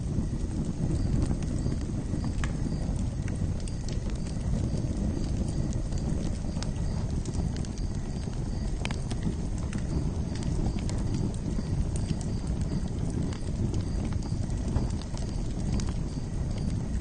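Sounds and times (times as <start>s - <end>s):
campfire crackling: 0.0s - 17.0s
fire pops and snaps: 0.0s - 17.0s.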